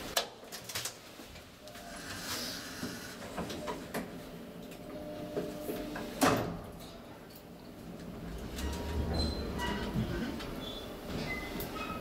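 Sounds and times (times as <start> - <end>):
elevator low rumble: 1.7 - 12.0.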